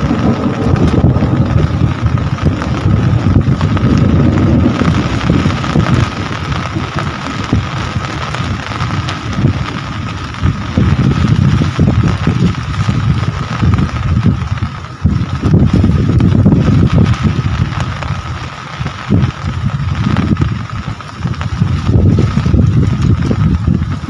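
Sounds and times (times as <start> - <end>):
heavy rain falling: 0.0 - 24.0
low rumble: 0.0 - 24.0.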